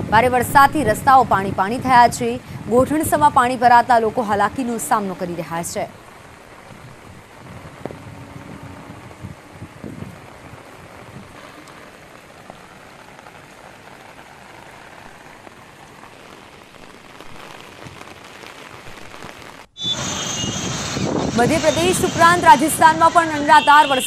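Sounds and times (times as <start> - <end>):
rain falling and splashing: 0.0 - 24.0.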